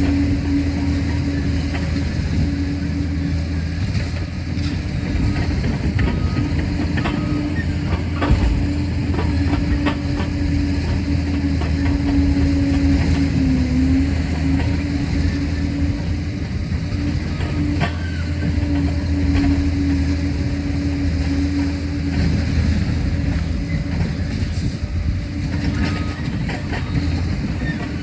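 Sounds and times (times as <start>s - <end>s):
clanks and knocks of tracks: 0.0s - 28.0s
diesel engine running: 0.0s - 28.0s.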